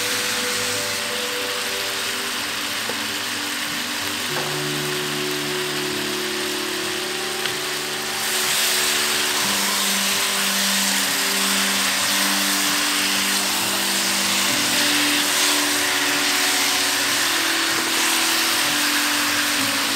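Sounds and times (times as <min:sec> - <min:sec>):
chicken sizzling in a frying pan: 0:00.0 - 0:19.9
soft background music: 0:00.0 - 0:19.9.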